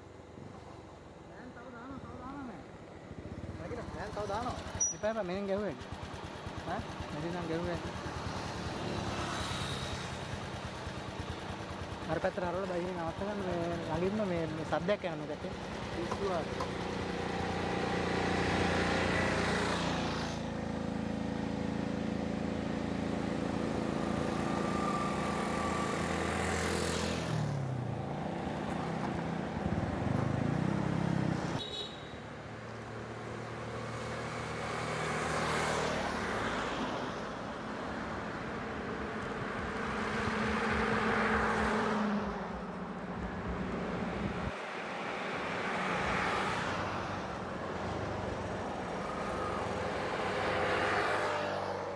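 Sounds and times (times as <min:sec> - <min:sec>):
motorcycles and cars passing: 0:01.3 - 0:51.9.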